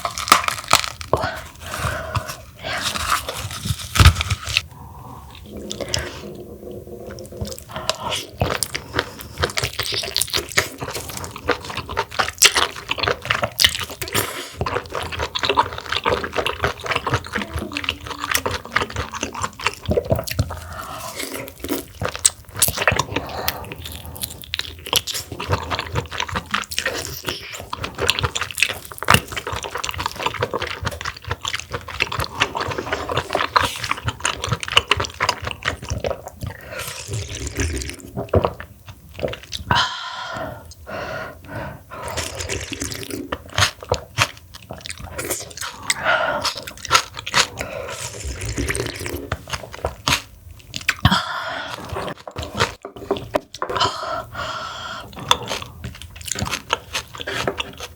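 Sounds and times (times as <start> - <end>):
wet chewing and slurping: 0.0 - 57.9.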